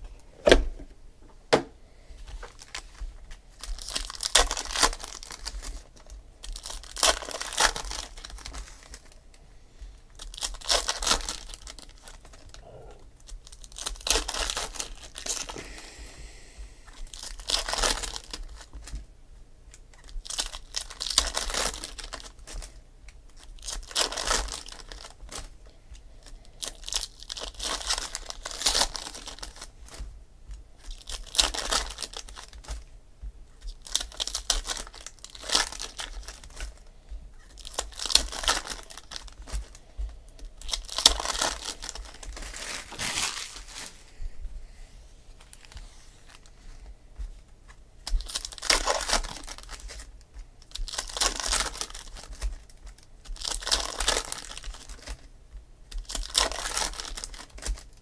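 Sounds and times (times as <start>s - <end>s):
foil wrappers tearing and crinkling: 2.4s - 9.2s, 10.1s - 15.8s, 16.9s - 19.1s, 19.9s - 30.1s, 30.8s - 32.9s, 33.6s - 44.0s, 45.4s - 46.7s, 48.0s - 55.3s, 55.9s - 58.0s.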